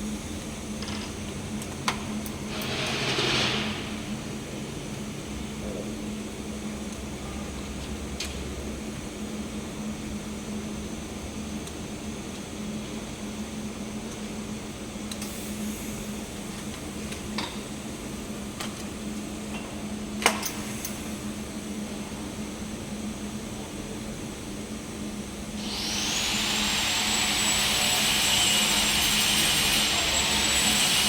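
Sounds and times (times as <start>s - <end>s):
welding set humming and hissing: 0.0s - 31.0s.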